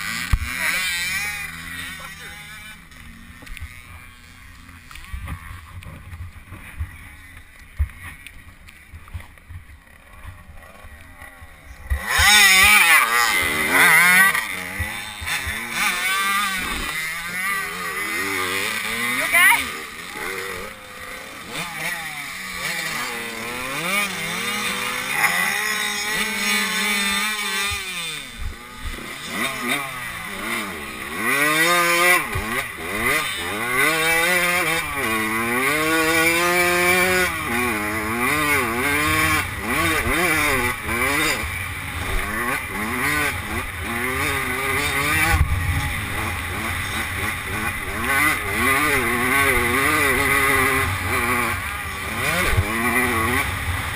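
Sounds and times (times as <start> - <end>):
two-stroke motorbike engine revving: 0.0 - 8.4, 9.0 - 53.9.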